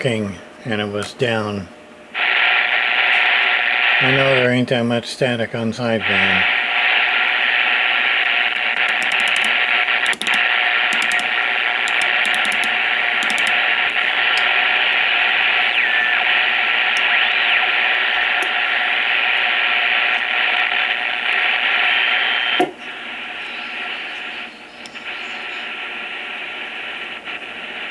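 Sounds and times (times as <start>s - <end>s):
radio static hiss: 0.0s - 27.9s.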